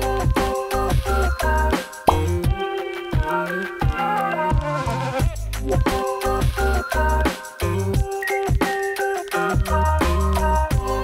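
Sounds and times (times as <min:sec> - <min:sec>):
electronic music with beat: 0:00.0 - 0:11.0.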